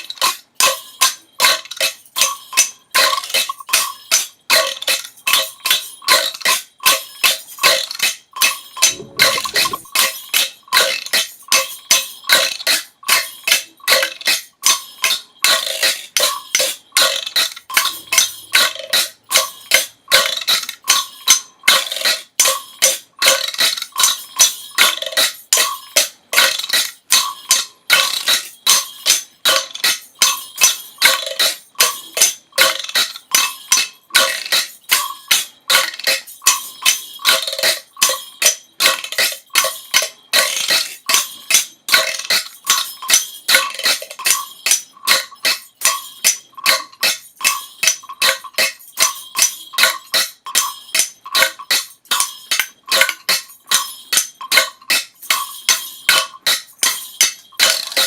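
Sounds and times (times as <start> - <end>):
rapid rhythmic breathing: 0.0 - 58.0.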